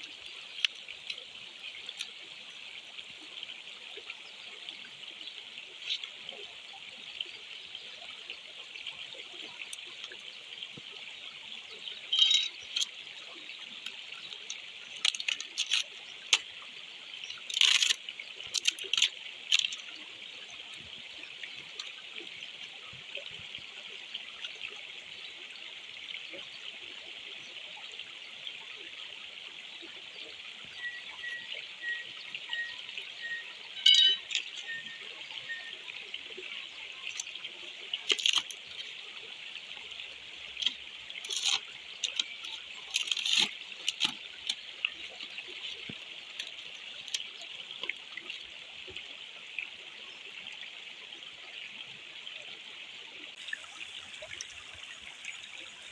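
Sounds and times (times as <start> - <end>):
stream trickling over rocks: 0.0 - 55.9.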